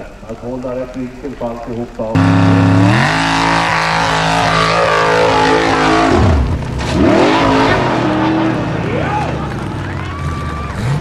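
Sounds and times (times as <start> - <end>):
buggy engine revving: 2.1 - 11.0.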